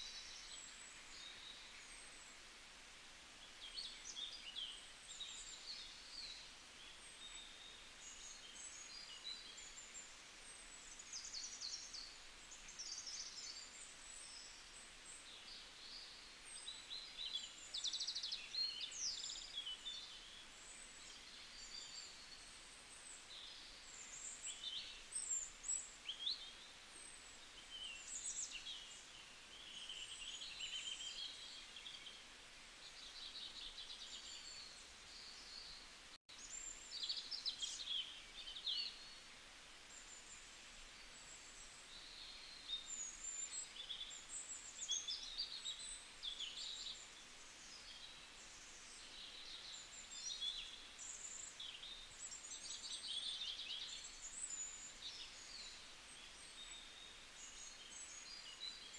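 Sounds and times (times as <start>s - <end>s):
faint steady hiss: 0.0s - 58.9s.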